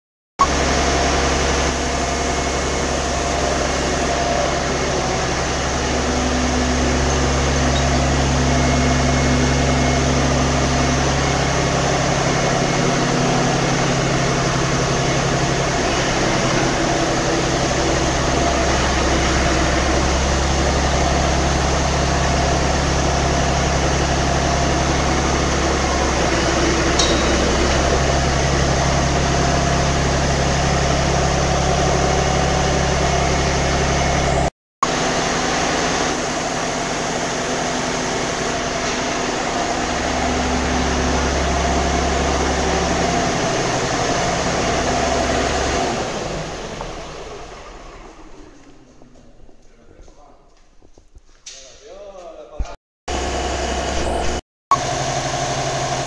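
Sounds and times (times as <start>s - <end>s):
diesel engine idling: 0.4s - 49.8s.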